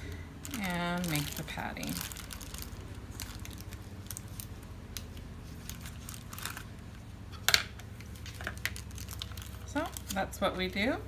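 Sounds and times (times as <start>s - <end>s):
wax paper crinkling: 0.0s - 7.1s, 7.8s - 10.9s.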